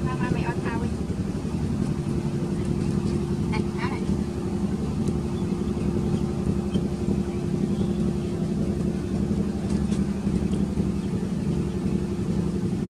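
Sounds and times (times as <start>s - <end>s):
constant hum: 0.0s - 12.9s
steady low engine drone: 0.0s - 12.9s.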